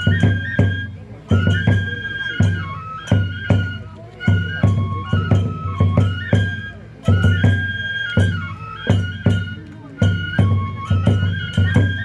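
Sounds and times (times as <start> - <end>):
bamboo flute melody: 0.0 - 12.0
taiko drum strokes: 0.0 - 12.0.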